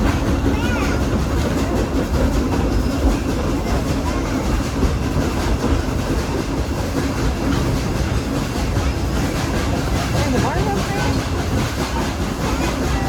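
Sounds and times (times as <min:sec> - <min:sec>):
steel wheels rumbling on rails: 0:00.0 - 0:13.0.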